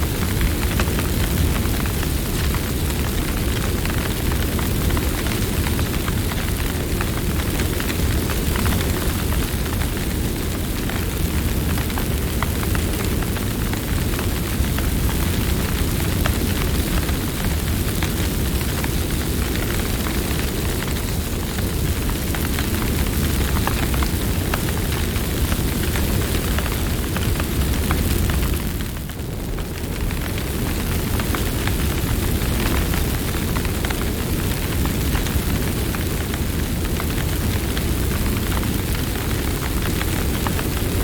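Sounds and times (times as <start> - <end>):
burning wood crackling and popping: 0.0 - 41.0
rumble of flames: 0.0 - 41.0.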